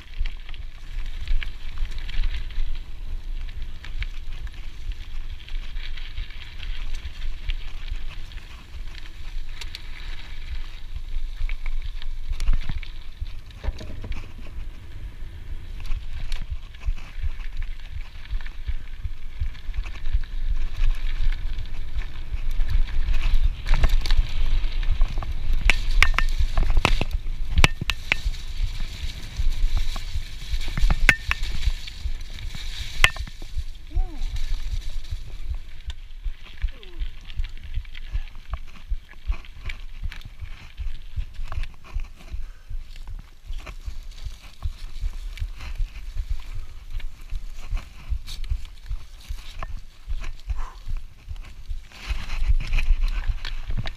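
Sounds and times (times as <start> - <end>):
bike rattling and clicking: 0.0 - 53.9
bike tyres rumbling on dirt trail: 0.0 - 53.9.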